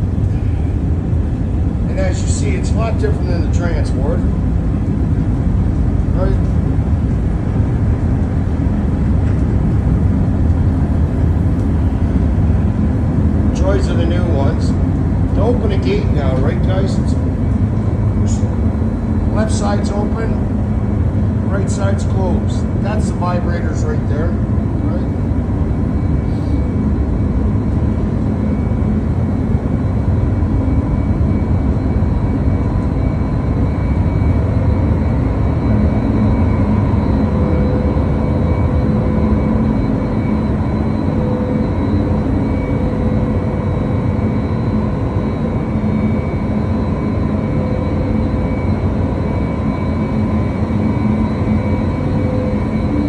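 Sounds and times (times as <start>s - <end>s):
conveyor machinery rumbling: 0.0s - 53.0s
steady hum tones: 0.0s - 53.0s.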